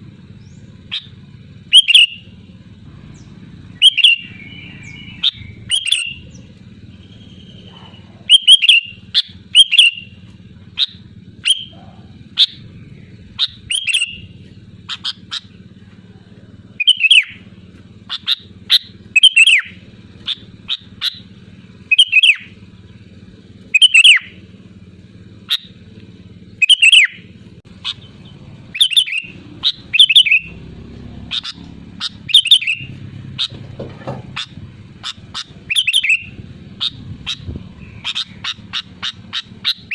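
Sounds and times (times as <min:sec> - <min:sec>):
bird calling sharp falling notes: 0:00.8 - 0:02.4, 0:03.6 - 0:07.7, 0:08.3 - 0:15.7, 0:16.8 - 0:22.8, 0:23.6 - 0:24.5, 0:26.4 - 0:33.6, 0:34.2 - 0:39.9.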